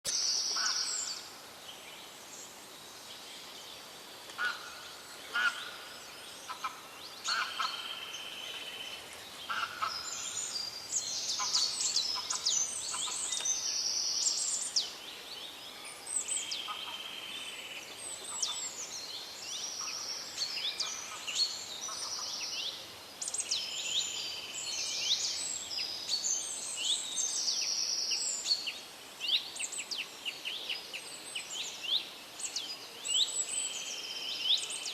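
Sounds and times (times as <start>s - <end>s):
songbirds singing and calling: 0.0s - 34.9s
faint steady hiss: 0.1s - 34.9s.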